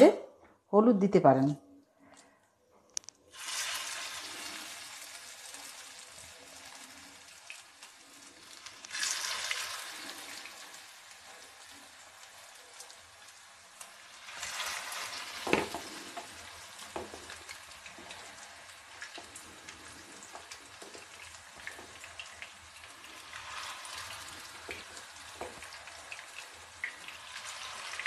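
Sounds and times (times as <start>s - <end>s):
hot oil sizzling in a frying pan: 3.3s - 28.0s.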